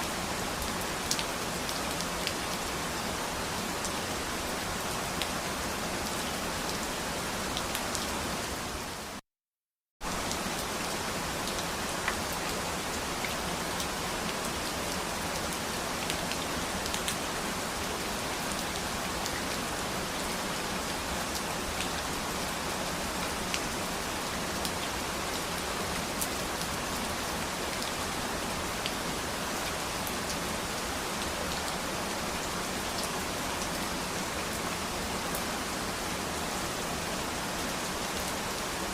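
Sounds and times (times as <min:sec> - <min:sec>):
steady rain falling: 0:00.0 - 0:09.2, 0:10.0 - 0:38.9.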